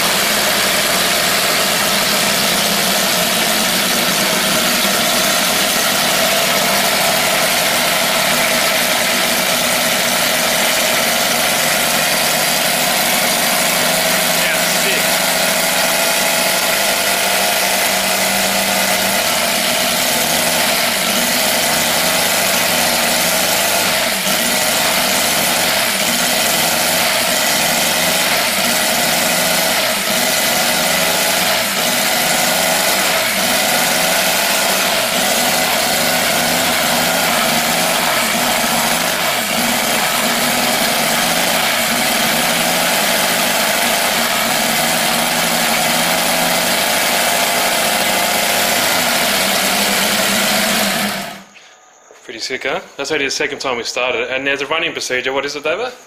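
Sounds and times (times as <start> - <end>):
model plane engine running: 0.0 - 51.5.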